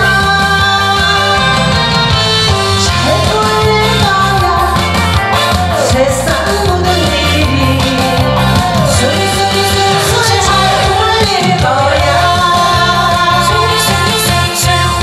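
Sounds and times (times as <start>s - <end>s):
backing track with steady beat: 0.0s - 15.0s
woman singing into microphone: 0.0s - 15.0s.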